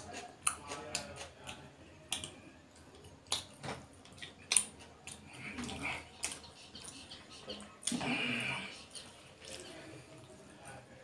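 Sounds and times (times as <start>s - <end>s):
wet chewing smacks and clicks: 0.0s - 10.4s.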